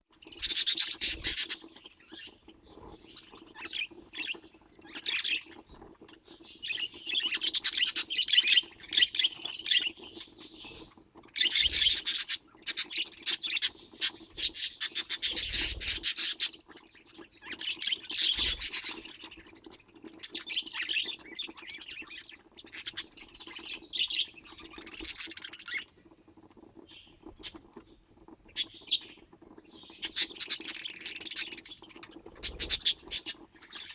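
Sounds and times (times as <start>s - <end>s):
budgerigars chattering and chirping: 0.1s - 33.9s.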